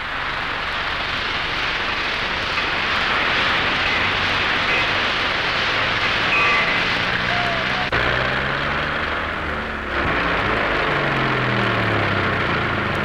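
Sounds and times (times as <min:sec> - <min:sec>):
tractor engine roaring: 0:00.0 - 0:13.0.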